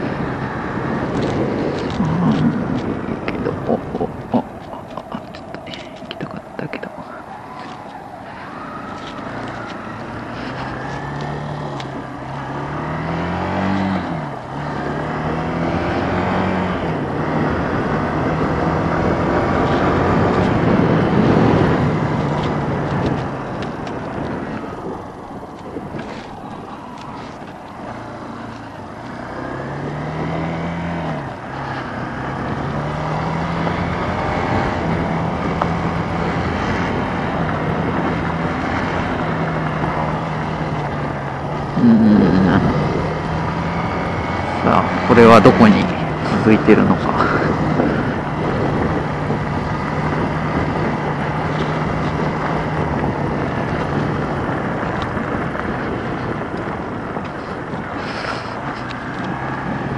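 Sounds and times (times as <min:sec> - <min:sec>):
motorcycle engine revving through gears: 0:00.0 - 0:59.9
wind and road noise: 0:00.0 - 0:59.9.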